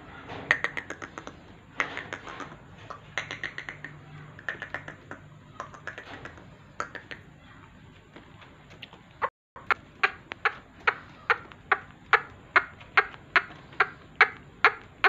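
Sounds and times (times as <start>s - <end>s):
bird clicking calls: 0.4s - 7.4s, 8.7s - 15.0s.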